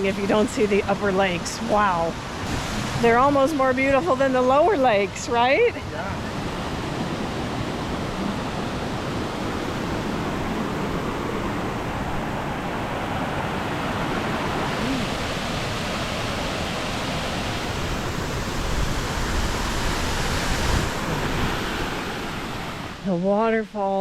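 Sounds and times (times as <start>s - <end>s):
waterfall rushing: 0.0s - 23.1s.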